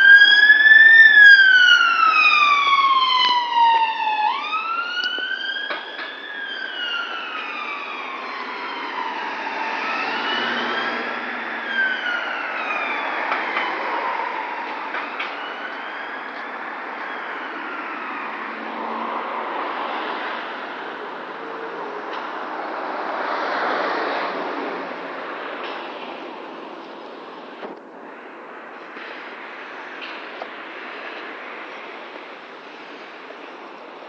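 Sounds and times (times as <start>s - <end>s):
ambulance siren wailing: 0.0s - 27.6s.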